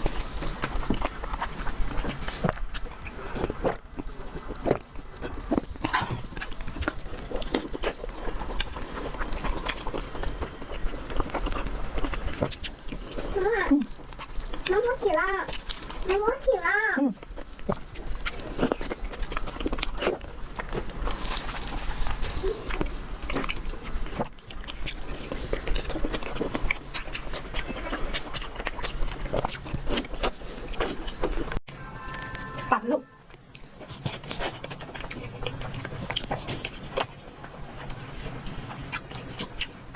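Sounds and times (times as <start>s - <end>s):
person chewing: 0.0s - 16.5s, 17.1s - 39.9s.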